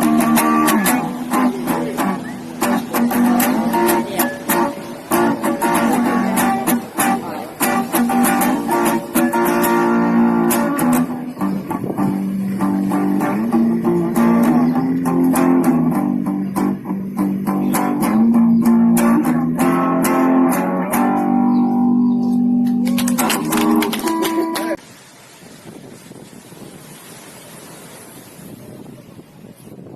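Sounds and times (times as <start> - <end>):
guitar plucked notes and chords: 0.0 - 24.8.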